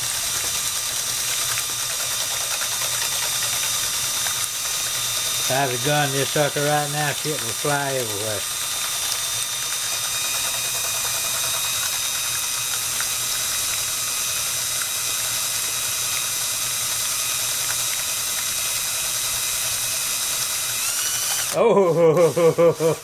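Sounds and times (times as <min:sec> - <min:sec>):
eggs whipping in metal bowl: 0:00.0 - 0:21.6
cordless drill whisk running: 0:00.0 - 0:23.0.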